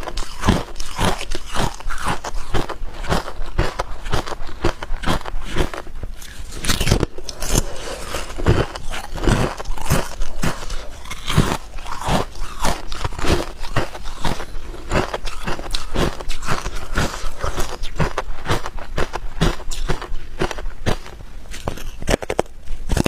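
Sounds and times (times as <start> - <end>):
ice crunching while chewed: 0.0 - 23.0.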